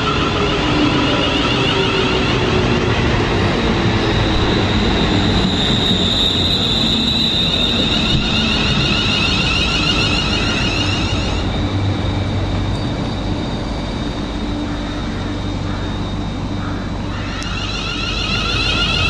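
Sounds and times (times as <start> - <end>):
another train running: 0.0 - 19.0
electric train passing at speed: 0.0 - 19.0.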